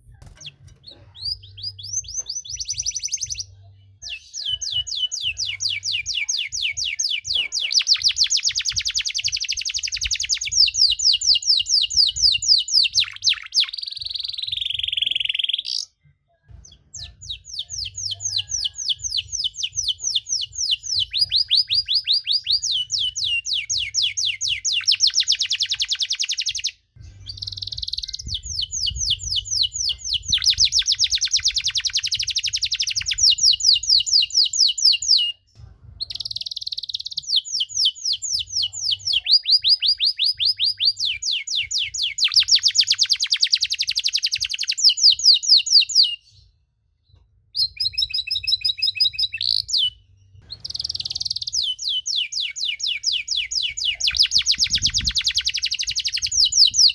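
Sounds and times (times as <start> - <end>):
canary singing trills: 0.0 - 46.5, 47.6 - 56.9.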